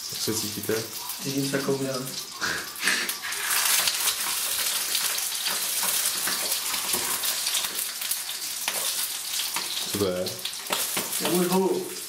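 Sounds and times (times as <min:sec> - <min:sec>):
sausage sizzling in frying pan: 0:00.0 - 0:12.0.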